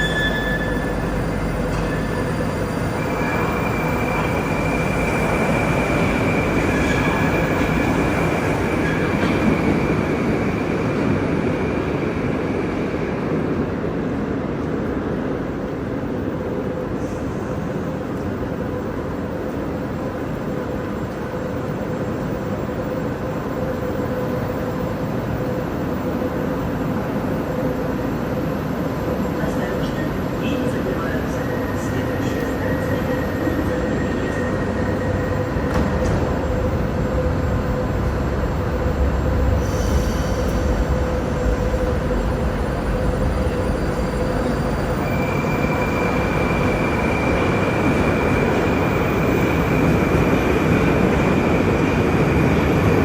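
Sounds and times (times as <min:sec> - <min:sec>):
metro train rumble: 0:00.0 - 0:53.0.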